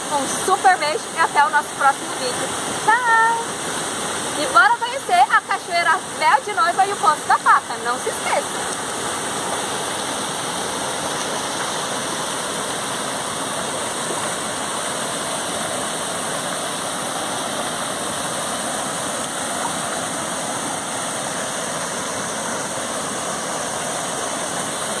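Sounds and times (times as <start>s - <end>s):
small waterfall rushing: 0.0s - 25.0s.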